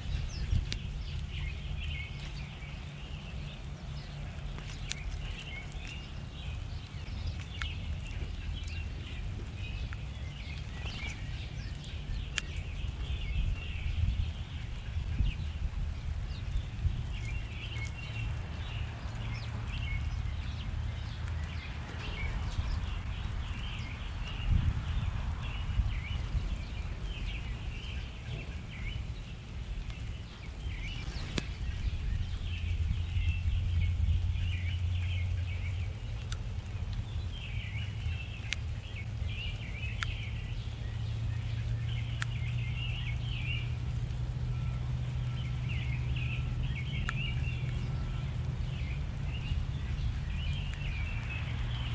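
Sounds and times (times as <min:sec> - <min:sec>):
low rumble: 0:00.0 - 0:51.9
songbirds chirping: 0:00.0 - 0:51.9.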